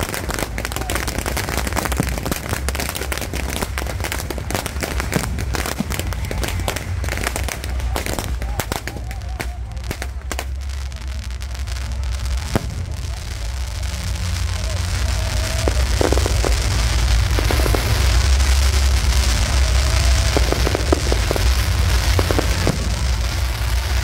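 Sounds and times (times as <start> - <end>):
fireworks crackling and popping: 0.0 - 24.0
low rumble: 0.0 - 24.0.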